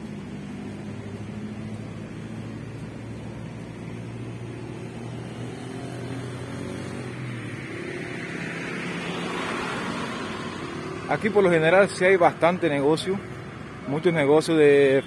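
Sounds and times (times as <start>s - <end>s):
low engine hum: 0.0s - 14.2s
car passing with tyre noise: 0.0s - 15.0s.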